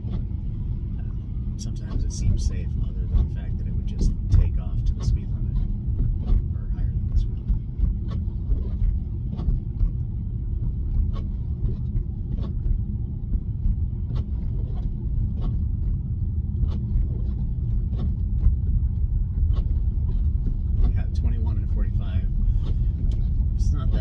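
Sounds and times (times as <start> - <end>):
road and tyre rumble: 0.0 - 24.0.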